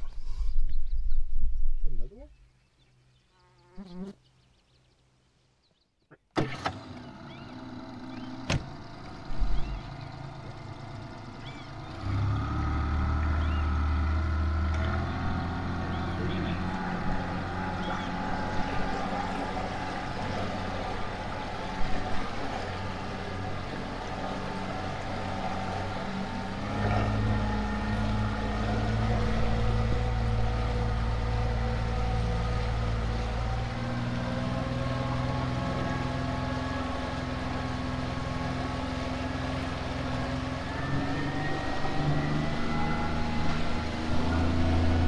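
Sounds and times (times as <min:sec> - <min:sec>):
outboard motor running: 0:05.7 - 0:45.0.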